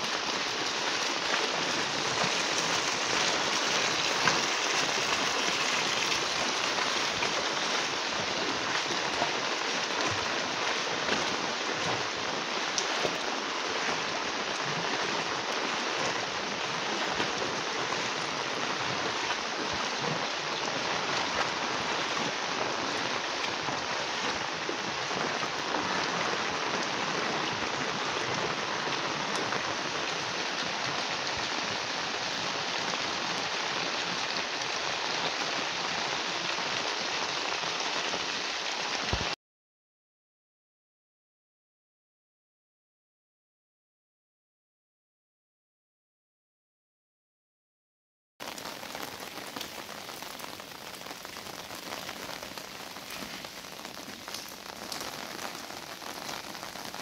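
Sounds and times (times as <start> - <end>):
heavy rain splashing into floodwater: 0.0 - 39.4, 48.4 - 57.0.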